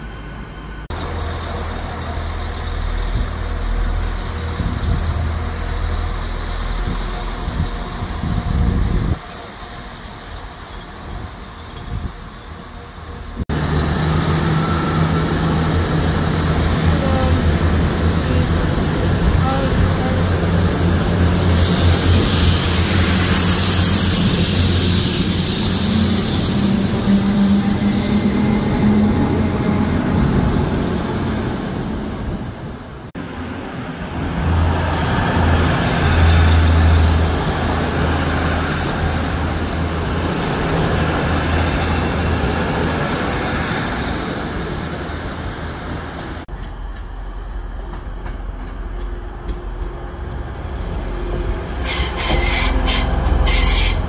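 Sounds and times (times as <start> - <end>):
passenger trains running on tracks: 0.0 - 54.0.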